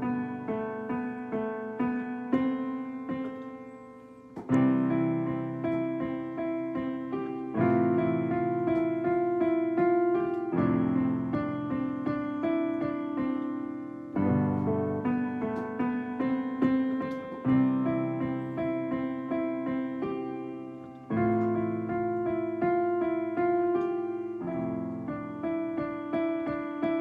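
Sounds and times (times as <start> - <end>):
electronic keyboard piano chords: 0.0 - 27.0.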